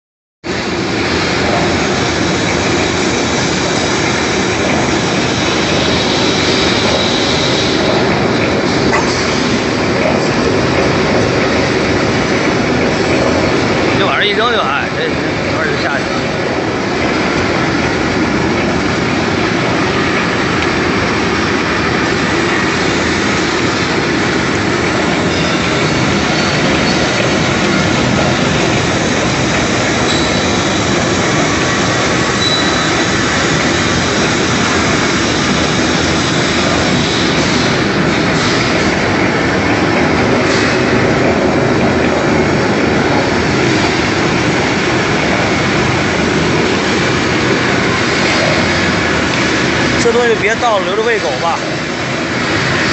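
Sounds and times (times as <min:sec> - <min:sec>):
bone crusher machine running: 0:00.5 - 0:52.9.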